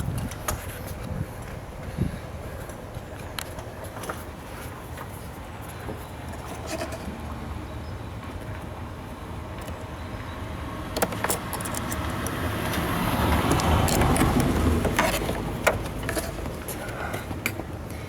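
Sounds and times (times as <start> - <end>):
motor vehicle rumble: 0.0 - 18.0.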